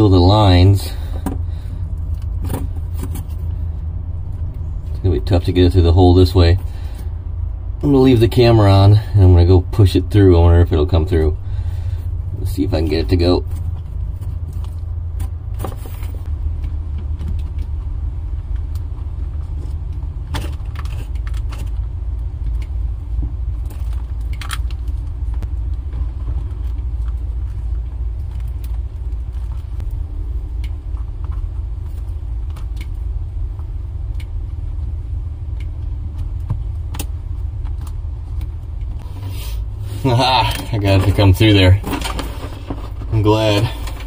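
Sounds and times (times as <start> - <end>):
low rumble: 0.0 - 44.0.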